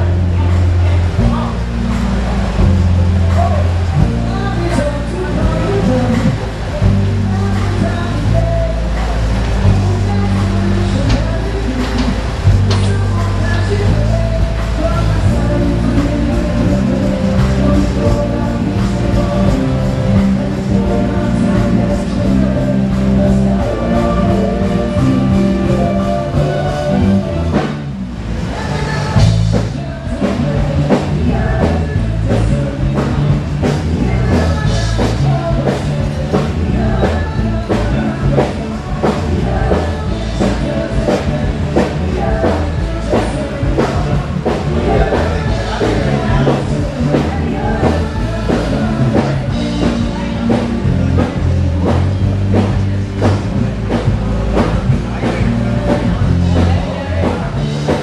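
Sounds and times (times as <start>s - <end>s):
drum kit: 0.0s - 58.0s
person singing: 0.0s - 58.0s
rock band playing: 0.0s - 58.0s.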